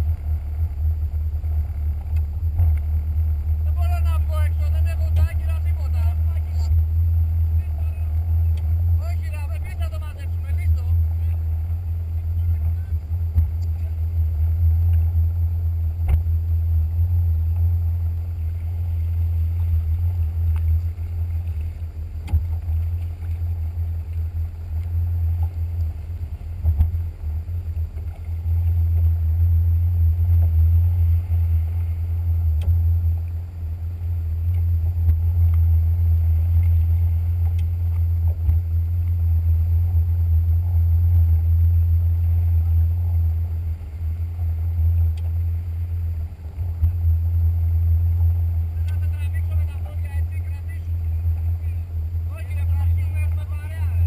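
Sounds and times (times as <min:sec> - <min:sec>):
jet ski engine running: 0:00.0 - 0:54.0.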